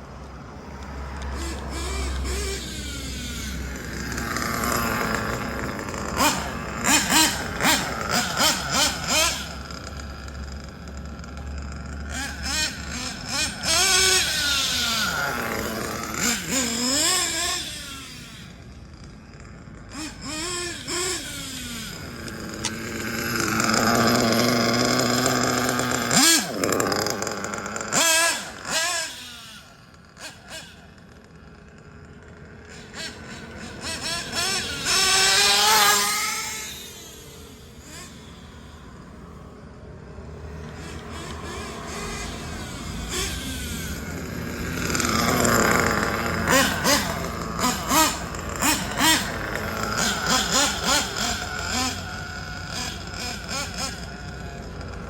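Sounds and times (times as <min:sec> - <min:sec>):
model truck engine revving: 0:00.0 - 0:55.0.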